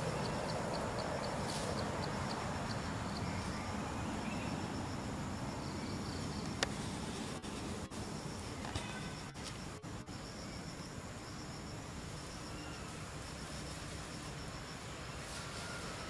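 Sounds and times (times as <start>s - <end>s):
insect chirping in high ticks: 0.0s - 6.8s, 7.9s - 16.0s
steady hiss: 0.0s - 16.0s.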